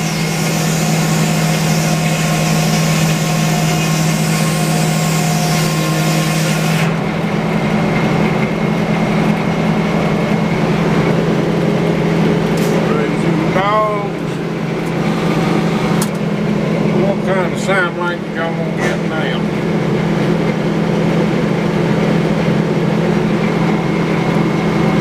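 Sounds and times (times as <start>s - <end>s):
engine hum: 0.0s - 25.0s.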